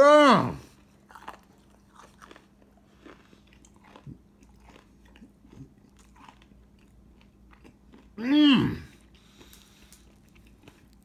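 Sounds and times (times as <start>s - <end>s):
chewing crispy fried chicken: 0.5s - 11.0s.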